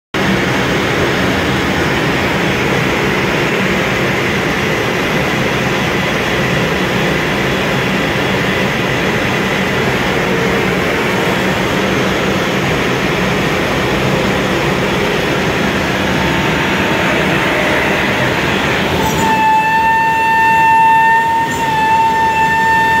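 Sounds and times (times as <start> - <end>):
cutting machine rushing noise: 0.2 - 23.0
low machine hum: 0.2 - 23.0.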